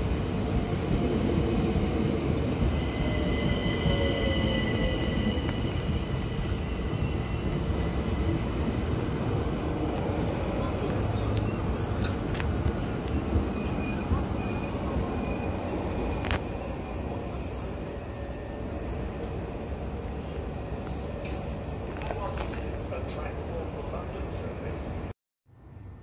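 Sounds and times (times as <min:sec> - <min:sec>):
train wheels rumbling on rails: 0:00.0 - 0:24.8
high wheel squeal: 0:02.0 - 0:25.1.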